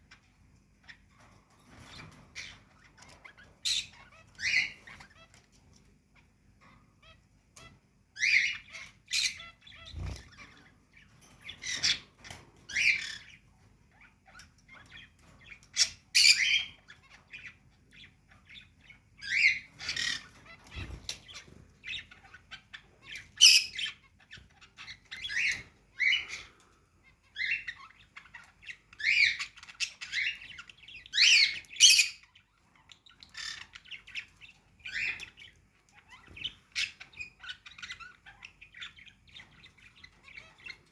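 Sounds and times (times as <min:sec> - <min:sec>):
cage birds chirping and squawking: 0:00.0 - 0:40.9.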